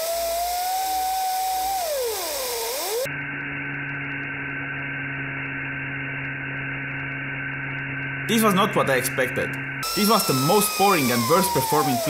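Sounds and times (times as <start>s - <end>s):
blender rotor whine: 0.0s - 12.0s
low hum with hiss: 0.0s - 12.0s.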